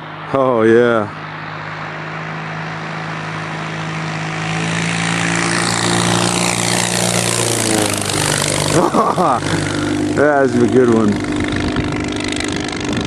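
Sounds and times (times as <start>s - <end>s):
ultralight aircraft engine and propeller: 0.0s - 13.0s.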